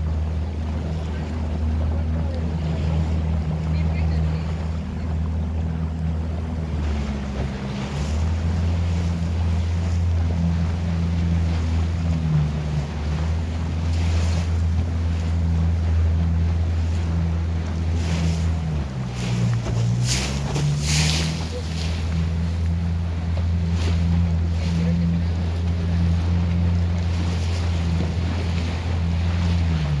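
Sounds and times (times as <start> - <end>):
motorboat engine droning: 0.0 - 30.0
water washing past hull: 0.0 - 30.0.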